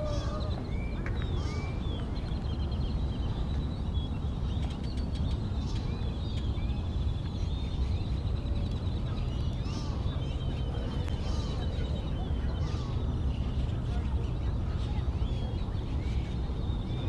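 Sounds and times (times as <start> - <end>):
birds chirping and trilling: 0.0 - 17.0
steady low rumble: 0.0 - 17.0.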